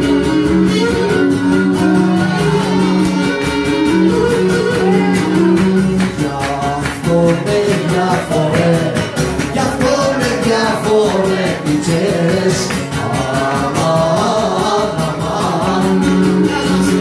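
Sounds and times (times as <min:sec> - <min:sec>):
man singing: 0:00.0 - 0:17.0
strummed lute: 0:00.0 - 0:17.0.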